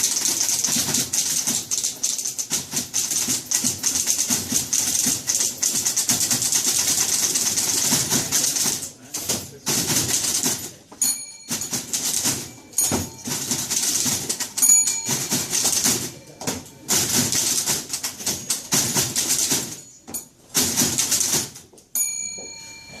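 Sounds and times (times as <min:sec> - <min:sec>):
typewriter keys clattering: 0:00.0 - 0:21.8
typewriter carriage bell ringing: 0:00.0 - 0:23.0.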